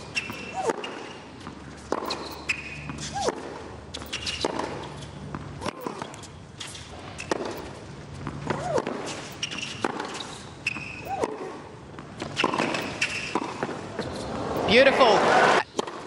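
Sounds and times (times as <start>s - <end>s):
racket striking tennis ball: 0.0s - 14.8s, 15.7s - 16.0s
shoes squeaking on court: 0.0s - 14.9s.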